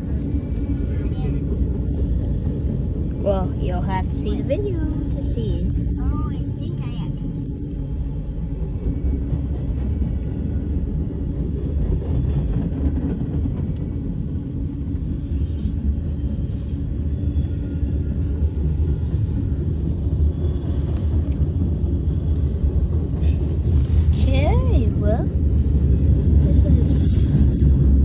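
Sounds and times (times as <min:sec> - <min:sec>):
freight train cars rumbling: 0:00.0 - 0:28.0.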